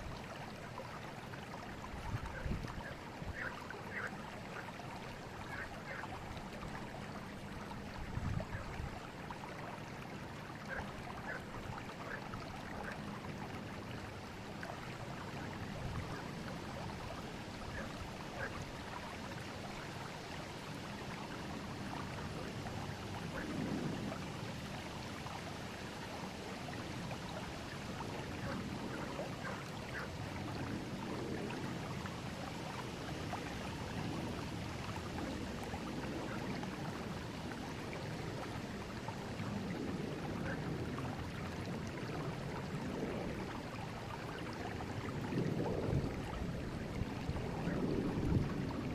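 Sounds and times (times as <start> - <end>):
river water rushing: 0.0 - 48.9
water gurgling and splashing: 0.0 - 48.9.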